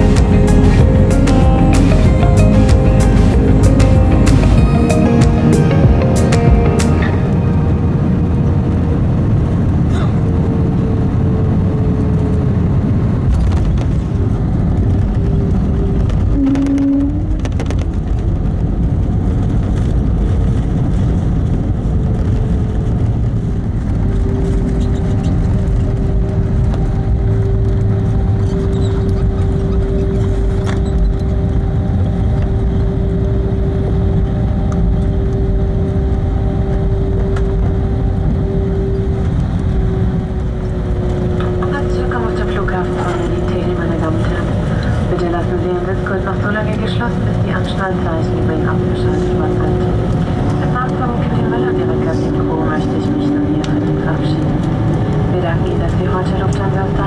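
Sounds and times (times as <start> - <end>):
jet engines rumbling: 0.0 - 57.0
steady whine: 0.0 - 57.0.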